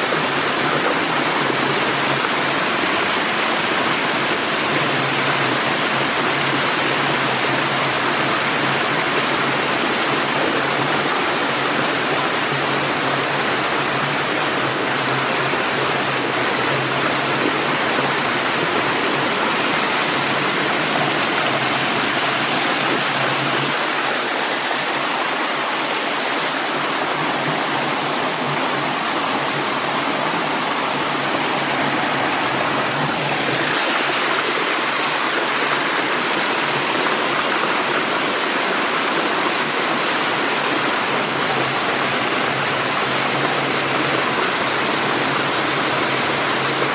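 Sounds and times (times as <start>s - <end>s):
waterfall splashing into stream: 0.0s - 46.9s.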